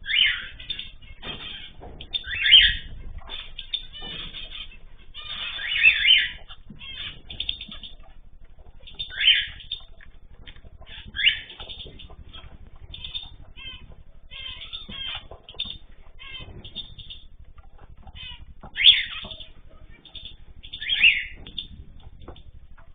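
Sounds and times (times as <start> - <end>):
harsh sweeping bird calls: 0.0 - 22.9.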